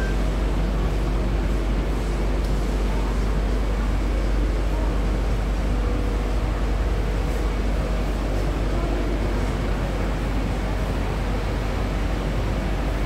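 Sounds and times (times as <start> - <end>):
train car rumble and hum: 0.0 - 13.0.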